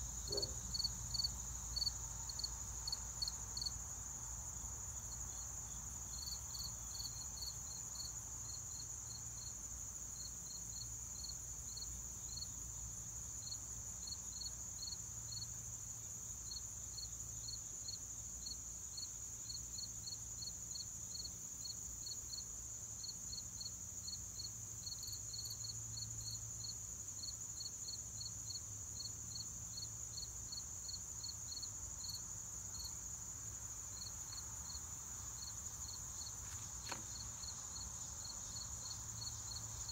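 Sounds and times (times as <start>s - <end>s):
crickets trilling and chirping: 0.0s - 39.9s.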